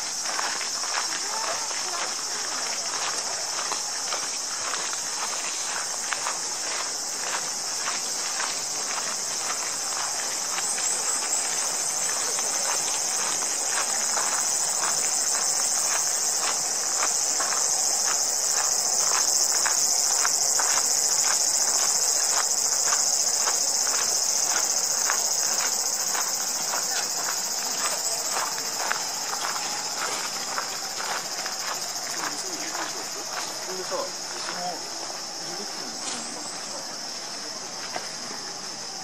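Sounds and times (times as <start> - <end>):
footsteps crunching on gravel: 0.0 - 38.8
insect chorus: 0.0 - 39.0.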